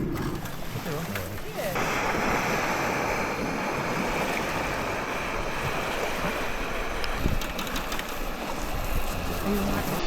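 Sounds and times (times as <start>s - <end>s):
water rushing: 0.0s - 10.0s
wind: 0.0s - 10.0s.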